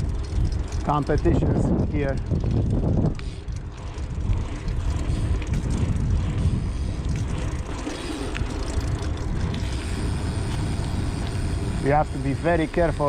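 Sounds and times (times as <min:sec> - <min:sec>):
bike rolling over cracked tarmac: 0:00.0 - 0:13.0
small rattles and clicks: 0:00.0 - 0:13.0.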